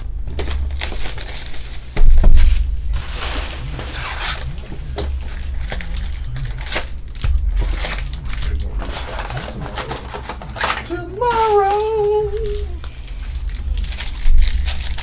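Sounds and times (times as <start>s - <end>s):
cardboard and foil packs handled: 0.0s - 15.0s
plastic shrink wrap crinkling: 0.0s - 15.0s.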